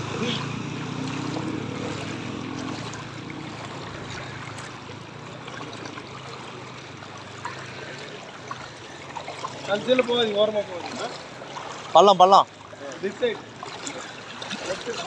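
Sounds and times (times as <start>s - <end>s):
water sloshing around wading legs: 0.0s - 15.0s.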